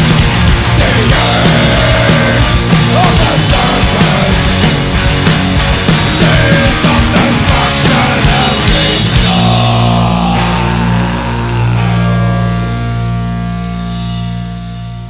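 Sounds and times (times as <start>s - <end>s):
distorted electric guitars: 0.0s - 15.0s
drums: 0.0s - 15.0s.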